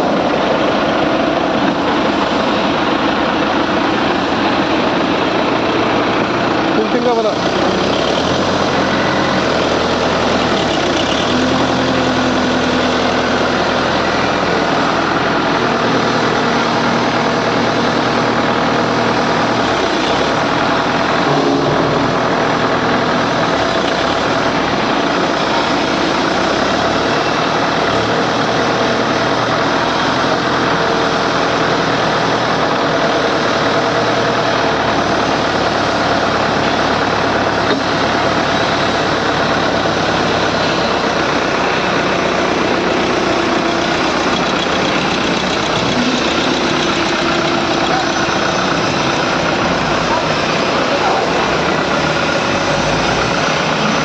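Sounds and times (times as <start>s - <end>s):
forklift engine running: 0.0s - 54.0s
loud industrial din: 0.0s - 54.0s.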